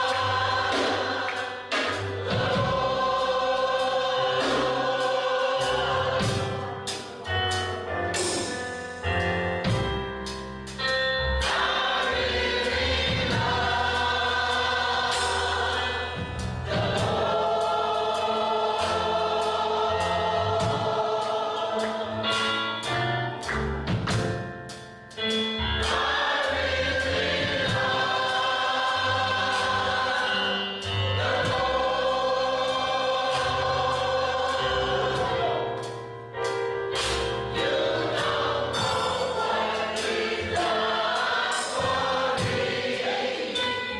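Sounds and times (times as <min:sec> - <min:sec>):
gospel choir singing: 0:00.0 - 0:24.4, 0:25.2 - 0:43.9
instrumental backing: 0:00.0 - 0:43.9.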